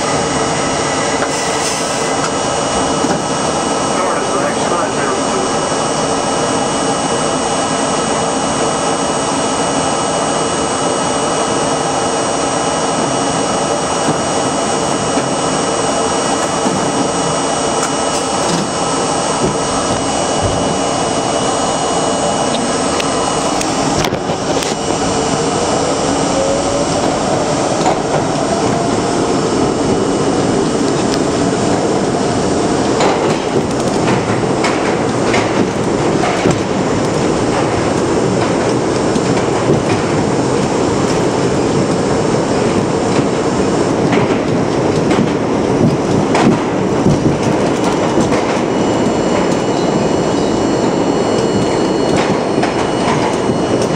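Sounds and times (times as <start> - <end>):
subway car hum and whine: 0.0 - 53.9
train motor whine rising: 0.0 - 53.9.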